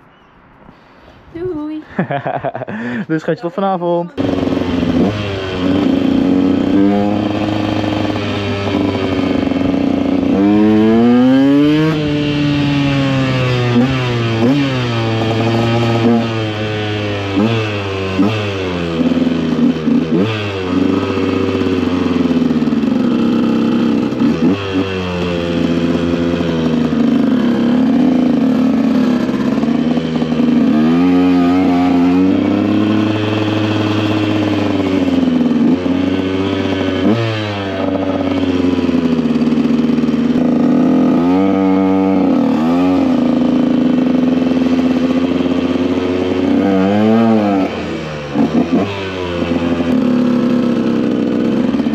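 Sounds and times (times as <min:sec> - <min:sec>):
motorcycle engine running: 0:01.4 - 0:51.9
motorcycle engine revving: 0:02.0 - 0:51.9.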